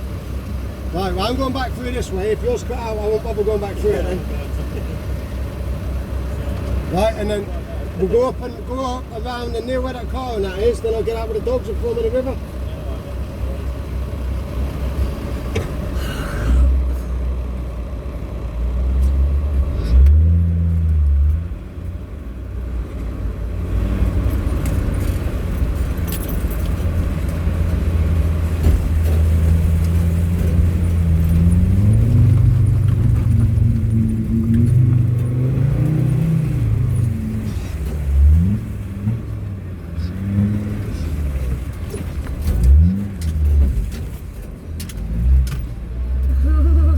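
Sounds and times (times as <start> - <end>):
diesel engine revving through gears: 0.0 - 46.9.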